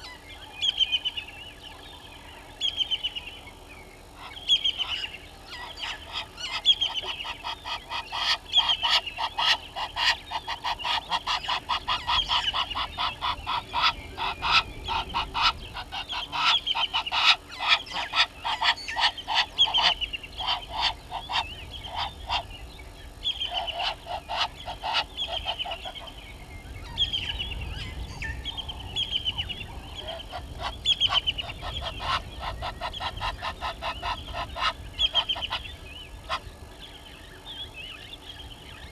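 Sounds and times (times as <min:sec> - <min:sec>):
guineafowl cackling: 0:00.0 - 0:02.0, 0:04.1 - 0:36.8.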